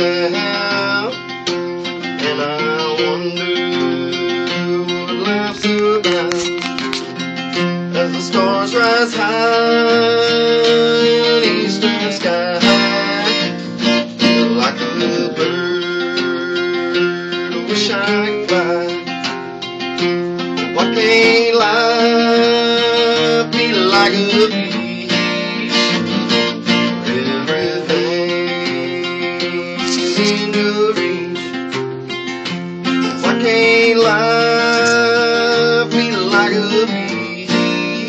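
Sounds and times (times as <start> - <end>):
acoustic guitar: 0.0 - 38.0
resonator guitar: 0.0 - 38.0.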